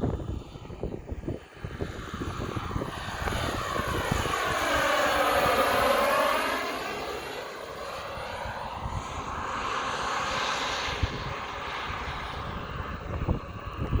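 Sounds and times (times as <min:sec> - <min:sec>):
model helicopter engine and rotor: 0:00.0 - 0:14.0.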